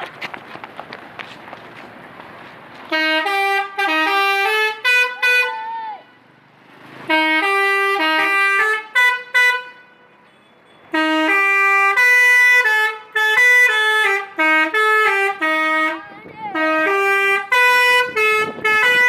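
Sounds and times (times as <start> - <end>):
multi-tone bus horn melody: 2.9 - 6.4, 7.0 - 19.0.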